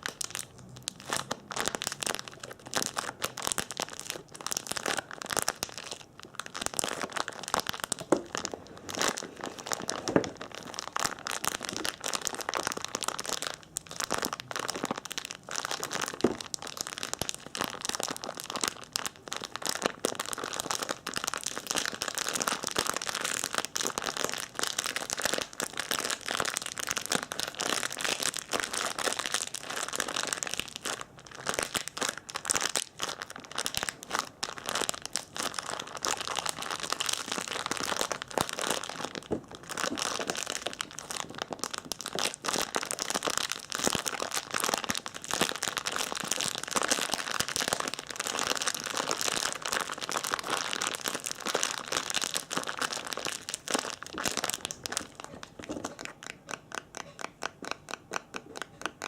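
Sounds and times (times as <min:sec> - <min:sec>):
crinkling and crackling: 0:00.0 - 0:59.0.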